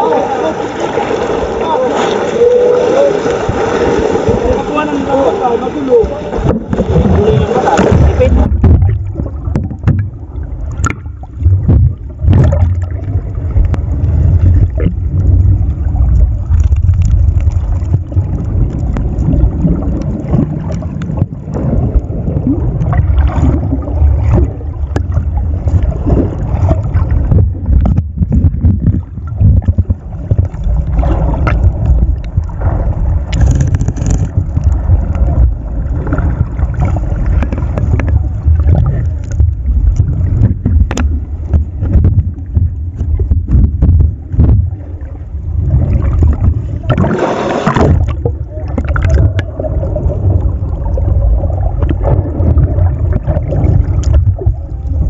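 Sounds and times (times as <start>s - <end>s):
muffled underwater rumble: 0.0s - 55.0s.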